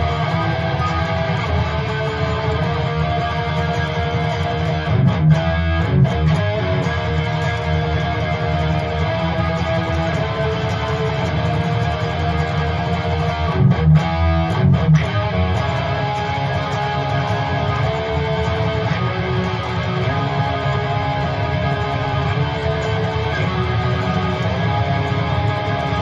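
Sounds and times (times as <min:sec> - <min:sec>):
electric guitar riff: 0:00.0 - 0:26.0.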